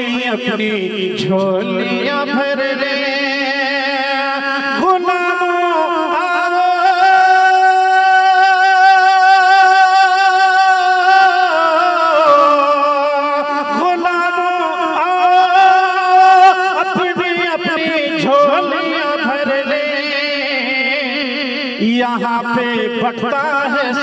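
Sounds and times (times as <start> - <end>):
man singing into a microphone: 0.0 - 24.0.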